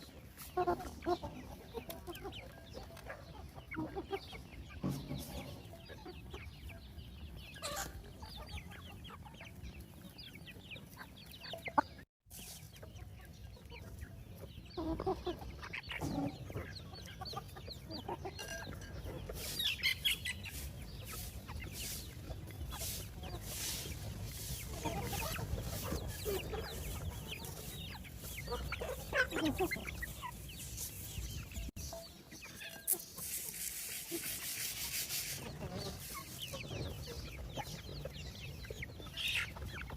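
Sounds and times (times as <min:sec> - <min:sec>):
chickens clucking: 0:00.0 - 0:39.9
outdoor background noise: 0:00.0 - 0:39.9.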